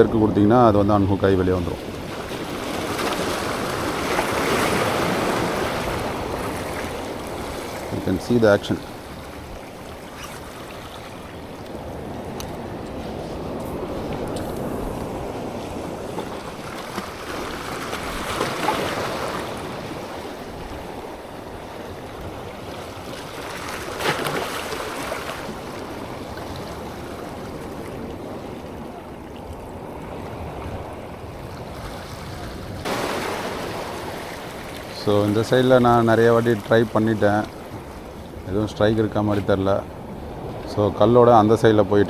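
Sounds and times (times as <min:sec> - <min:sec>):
waves washing on shore: 0:00.0 - 0:42.0.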